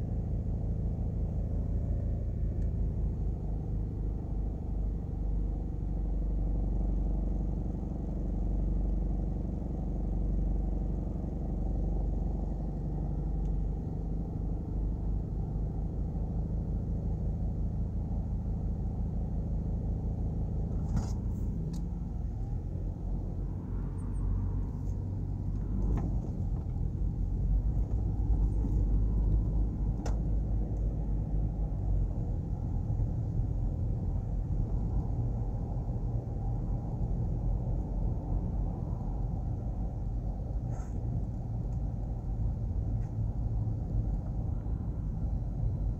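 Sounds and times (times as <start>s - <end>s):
car engine idling: 0.0s - 45.9s
engine and road rumble: 0.0s - 45.9s.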